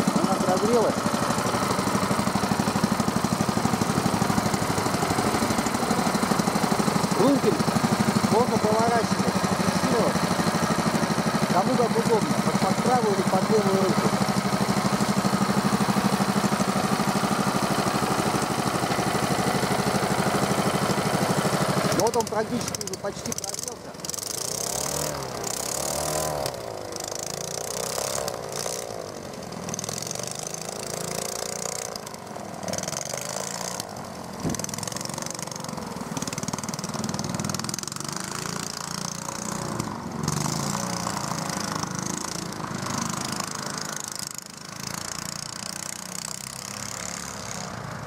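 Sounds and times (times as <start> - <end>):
propeller boat engines running: 0.0 - 48.0.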